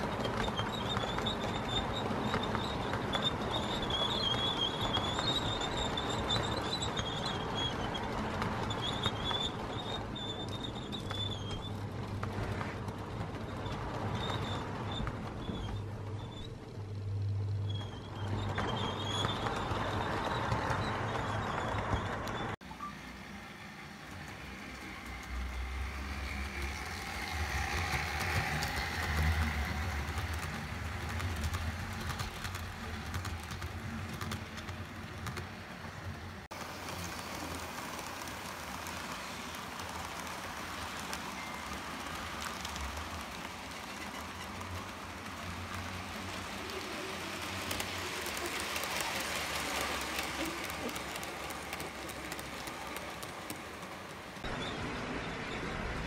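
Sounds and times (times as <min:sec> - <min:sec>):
wheels rumbling on track: 0:00.0 - 0:56.0.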